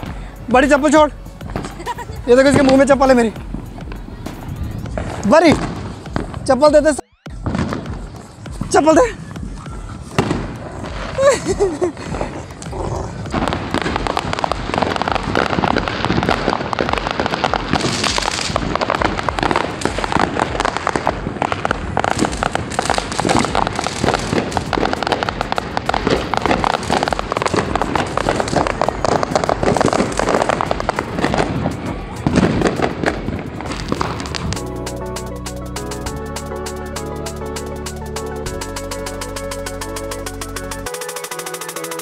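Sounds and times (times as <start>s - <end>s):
fireworks crackling and popping: 0.0s - 42.0s.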